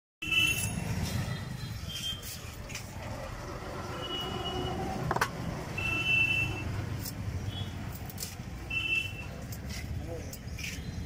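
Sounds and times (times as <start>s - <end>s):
traffic and market rumble: 0.2s - 11.0s.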